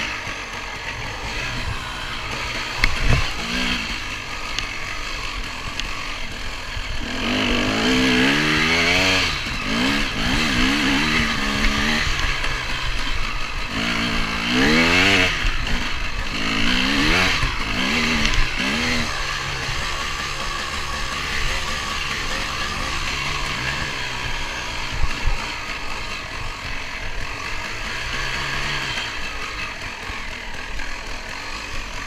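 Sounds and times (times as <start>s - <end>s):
dirt bike engine revving: 0.0s - 32.0s
wind and road noise: 0.0s - 32.0s.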